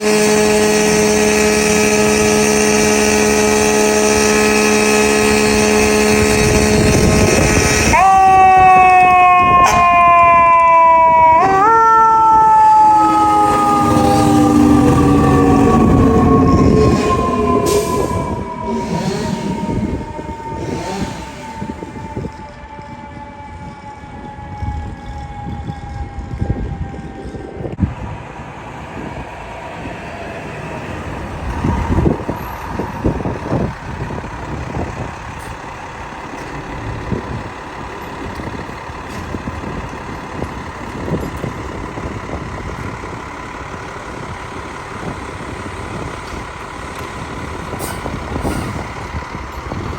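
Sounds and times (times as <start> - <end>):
diesel engine droning: 0.0 - 49.9
traffic rumble: 0.0 - 49.9.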